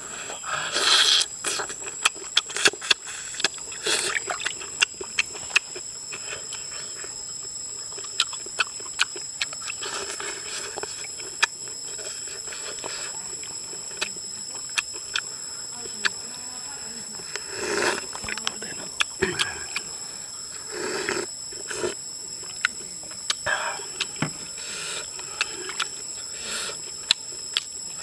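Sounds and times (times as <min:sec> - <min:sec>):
wet chewing and lip smacks: 0:00.7 - 0:16.2, 0:17.3 - 0:20.0, 0:21.0 - 0:27.8.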